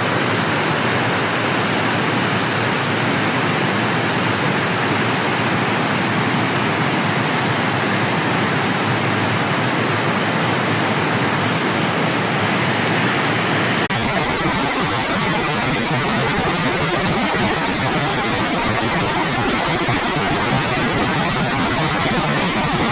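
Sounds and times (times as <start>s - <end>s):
river rushing: 0.0s - 22.9s.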